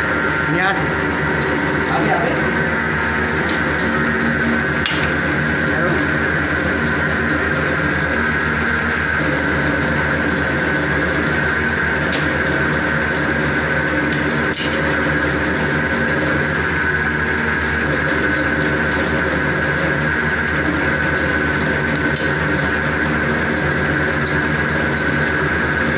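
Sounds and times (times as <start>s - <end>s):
noodle machine humming and whining: 0.0s - 25.9s.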